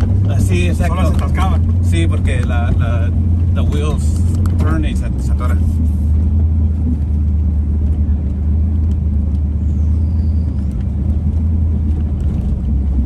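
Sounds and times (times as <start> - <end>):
vehicle rumbling over dirt track: 0.0 - 13.0.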